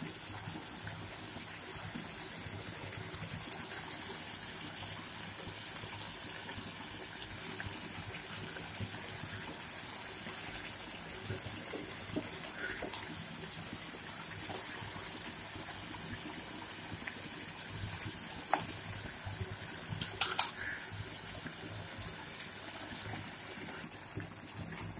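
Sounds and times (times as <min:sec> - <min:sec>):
tomatoes sizzling in oil: 0:00.0 - 0:24.9.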